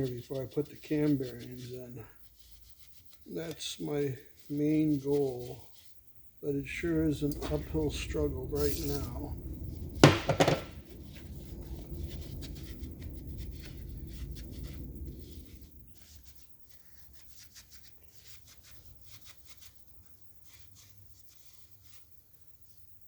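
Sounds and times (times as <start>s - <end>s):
paper towel scrubbing metal: 0.0s - 22.1s
scratching and rustling: 0.0s - 22.2s.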